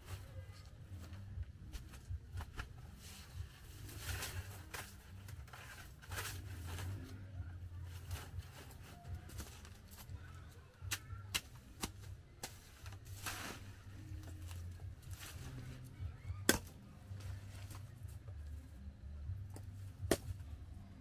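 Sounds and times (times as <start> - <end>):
leaves and woven mat rustling: 0.0 - 10.2, 10.9 - 18.2
low steady hum: 0.0 - 21.0.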